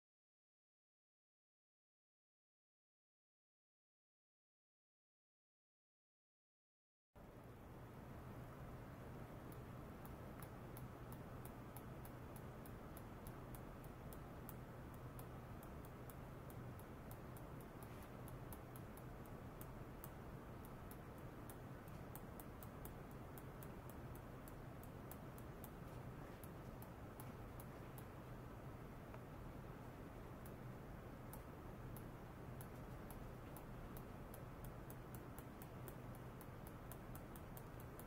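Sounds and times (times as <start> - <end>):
faint high-pitched ticks: 7.2 - 38.0
low electrical hum: 7.2 - 38.0.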